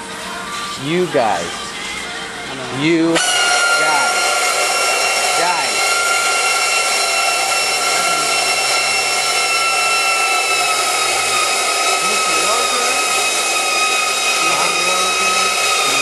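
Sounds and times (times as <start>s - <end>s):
machine with high whine: 0.0s - 16.0s.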